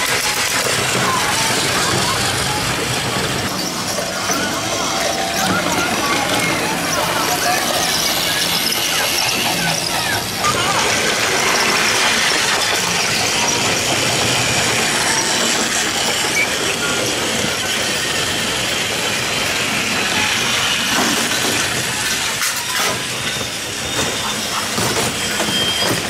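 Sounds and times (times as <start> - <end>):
wheels rattling on plastic track: 0.0 - 26.0.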